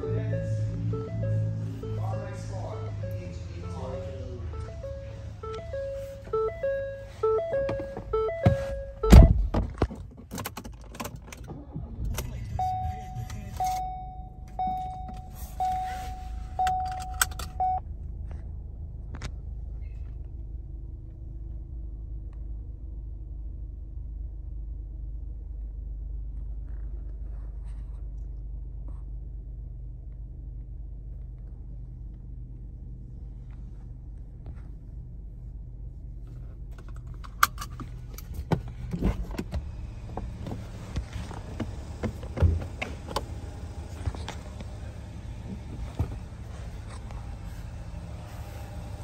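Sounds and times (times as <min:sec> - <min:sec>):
car engine idling: 0:00.0 - 0:27.4, 0:29.4 - 0:49.0.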